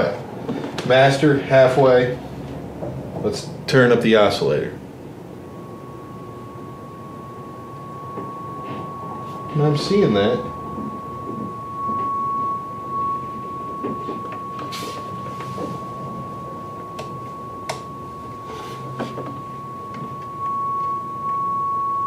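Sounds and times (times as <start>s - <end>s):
steady test tone: 0.0s - 22.0s.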